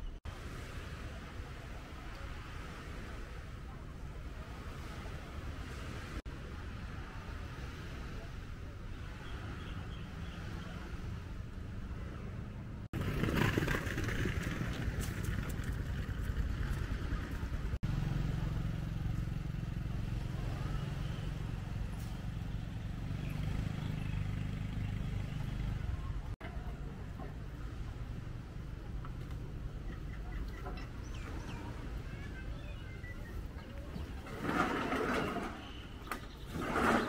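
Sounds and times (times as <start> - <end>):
distant traffic hum: 0.0 - 37.0.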